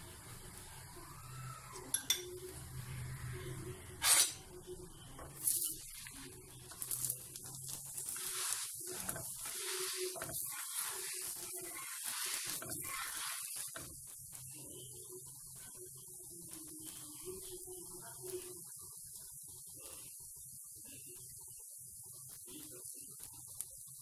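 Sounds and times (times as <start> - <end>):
flatbread sizzling on a hot griddle: 0.0 - 24.0.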